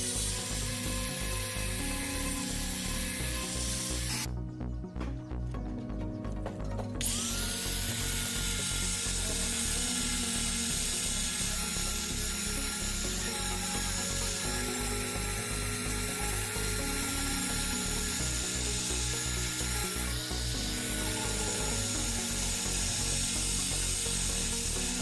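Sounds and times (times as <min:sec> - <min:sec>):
angle grinder sanding steel: 0:00.0 - 0:04.3, 0:07.0 - 0:25.0
background music with low bass: 0:00.0 - 0:25.0.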